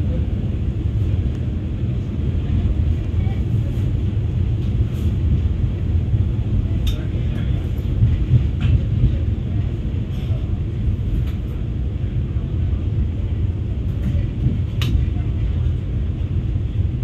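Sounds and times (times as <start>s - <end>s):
train coach rumbling on rails: 0.0s - 17.0s.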